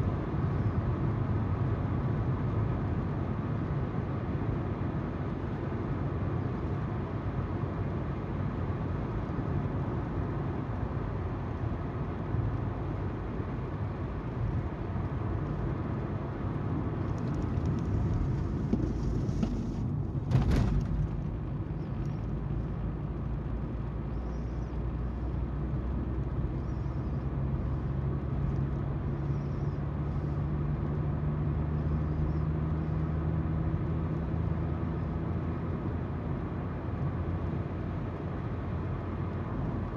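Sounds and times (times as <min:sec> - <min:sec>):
car engine hum: 0:00.0 - 0:39.9
road tyre noise: 0:00.0 - 0:39.9.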